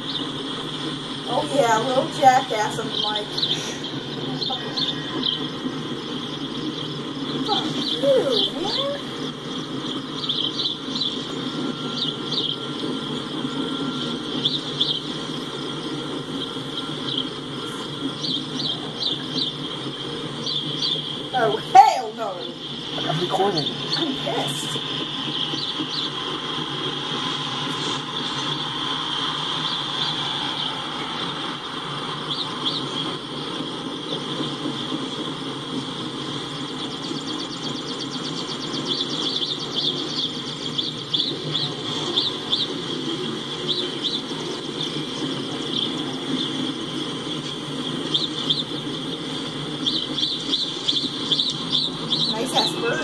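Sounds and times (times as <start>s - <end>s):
birds chirping: 0.0s - 53.0s
high whine: 0.0s - 53.0s
train wheels rumbling on track: 0.0s - 53.0s.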